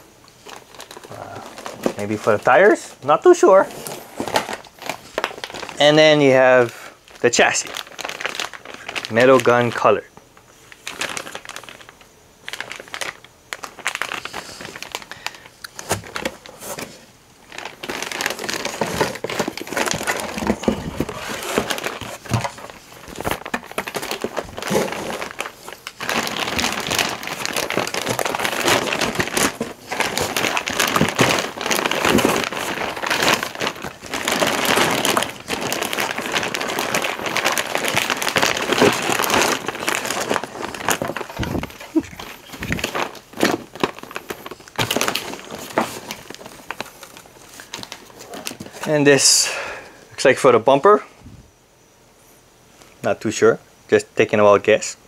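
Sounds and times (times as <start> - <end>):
plastic bags crinkling: 0.0 - 50.4.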